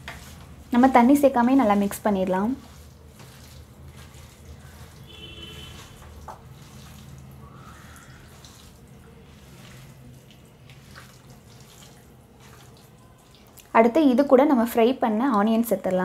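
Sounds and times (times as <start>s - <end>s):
wet squelching of kneaded meat: 0.0s - 16.0s.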